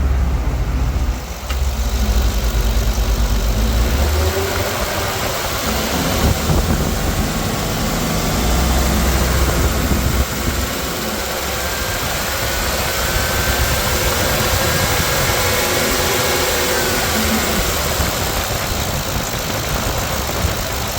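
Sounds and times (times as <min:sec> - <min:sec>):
engine idling: 0:00.0 - 0:20.9.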